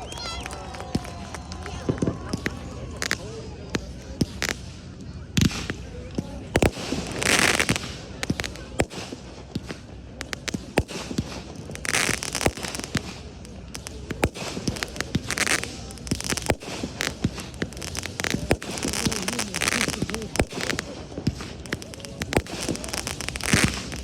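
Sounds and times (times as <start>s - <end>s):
dense fireworks crackle: 0.0s - 24.0s
fireworks bangs and cracks: 0.0s - 24.0s.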